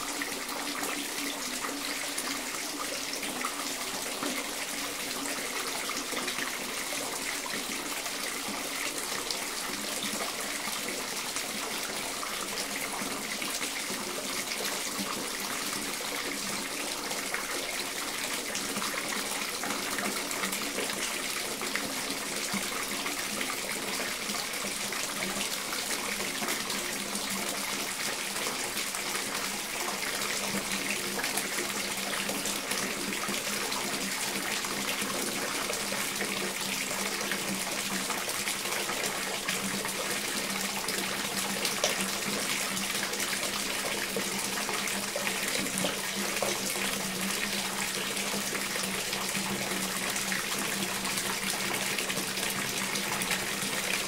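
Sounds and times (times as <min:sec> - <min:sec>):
tap water filling bathtub: 0:00.0 - 0:54.0.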